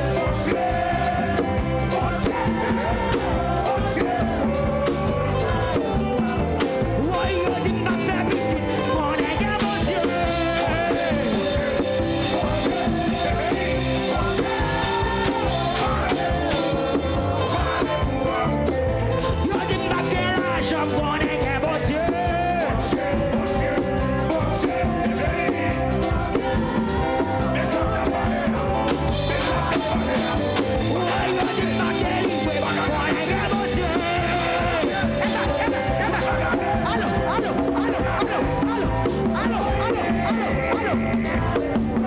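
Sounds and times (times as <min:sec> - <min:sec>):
people singing: 0:00.0 - 0:42.0
worship band music: 0:00.0 - 0:42.0.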